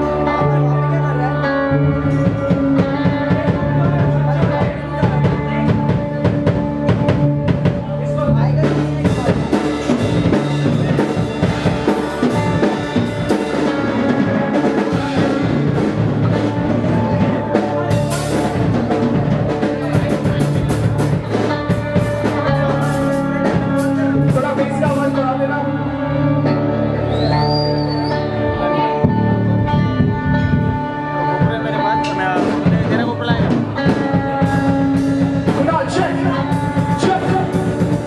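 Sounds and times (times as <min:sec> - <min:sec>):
rock band playing live: 0:00.0 - 0:38.0
sustained guitar: 0:00.0 - 0:38.0.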